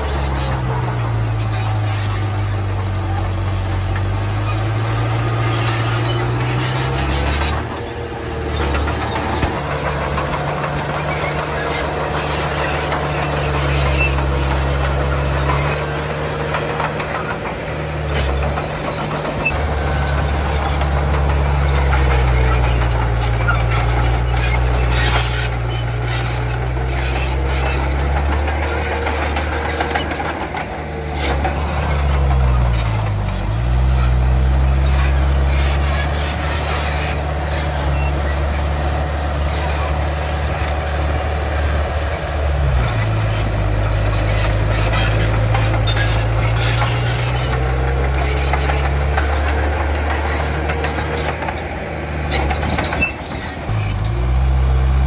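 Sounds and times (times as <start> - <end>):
bulldozer diesel engine working: 0.0 - 55.0
clanks and squeaks: 0.0 - 55.0.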